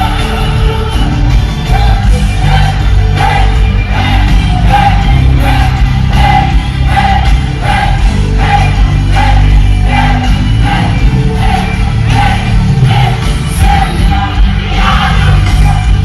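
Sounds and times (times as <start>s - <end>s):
live worship band playing: 0.0s - 16.0s.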